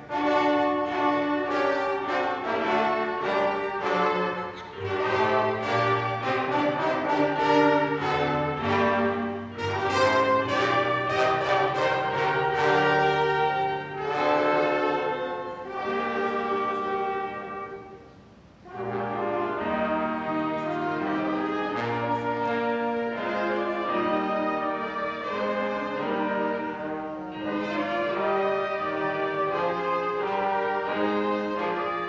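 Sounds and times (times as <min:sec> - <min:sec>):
brass sustained chords: 0:00.0 - 0:32.0
small orchestra playing: 0:00.0 - 0:32.0.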